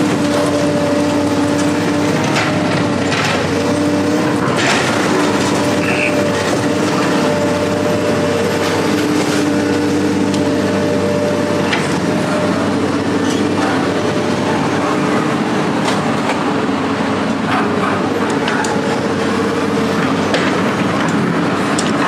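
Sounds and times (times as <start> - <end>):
vehicle engine drone: 0.0 - 22.0.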